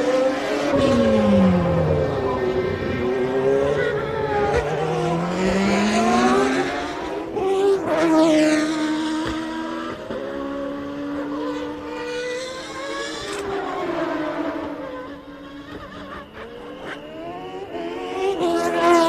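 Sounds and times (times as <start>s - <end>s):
race car engines at high revs: 0.0s - 19.0s
race car sweeping past: 0.0s - 19.0s.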